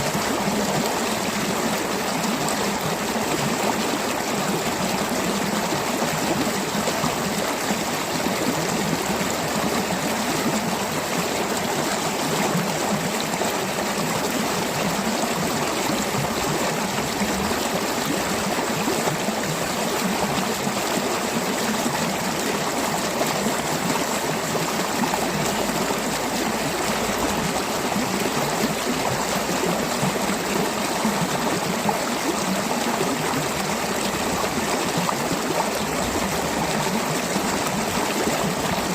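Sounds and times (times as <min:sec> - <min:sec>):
mountain stream gurgling over rocks: 0:00.0 - 0:38.9.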